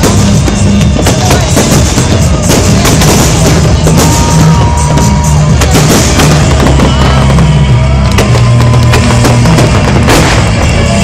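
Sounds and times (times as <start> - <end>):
fireworks bursting and crackling: 0.0 - 11.0
loud music: 0.0 - 11.0.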